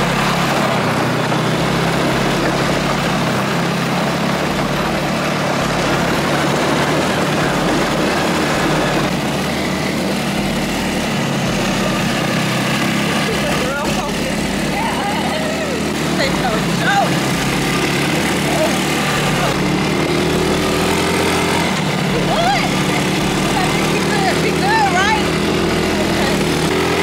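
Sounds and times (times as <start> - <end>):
dune buggy engine droning: 0.0 - 27.0.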